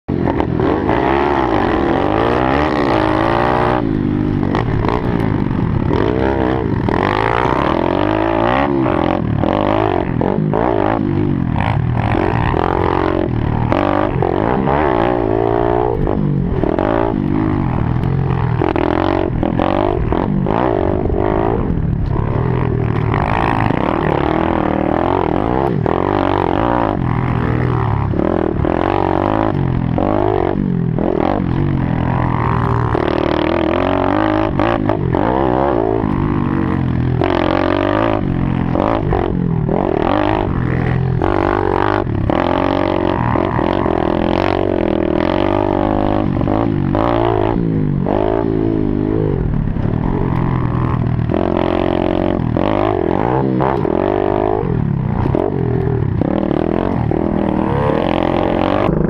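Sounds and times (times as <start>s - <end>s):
dirt bike engine revving: 0.1s - 59.0s.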